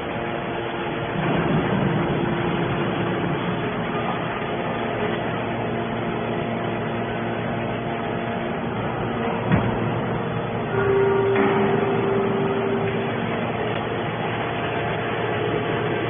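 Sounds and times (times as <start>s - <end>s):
baler pump and motor hum: 0.0s - 16.0s
loud steady whine: 0.0s - 16.0s.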